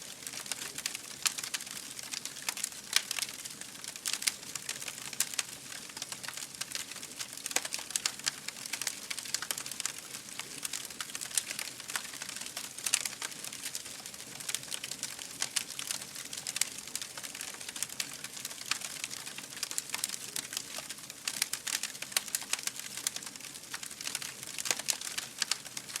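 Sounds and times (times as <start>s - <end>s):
fire crackling: 0.0s - 26.0s
fire snaps and pops: 0.1s - 26.0s.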